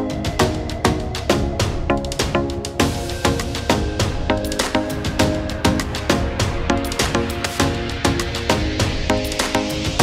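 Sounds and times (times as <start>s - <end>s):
music with drum beat and chords: 0.0s - 10.0s.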